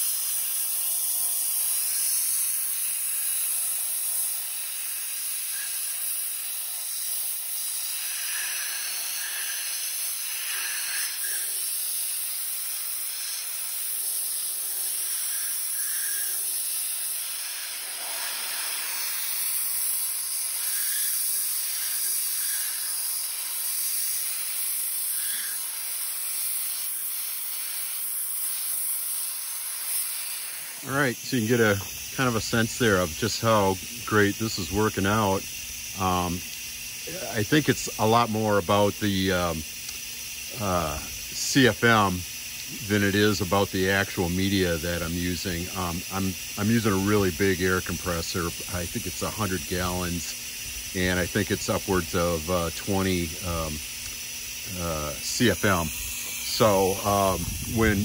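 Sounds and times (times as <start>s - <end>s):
sandblaster hissing: 0.0s - 58.0s.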